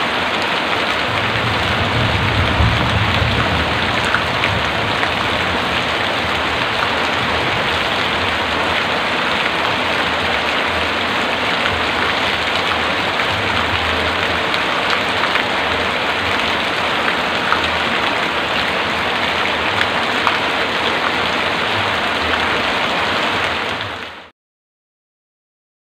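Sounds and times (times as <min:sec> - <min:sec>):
heavy rain falling: 0:00.0 - 0:24.3.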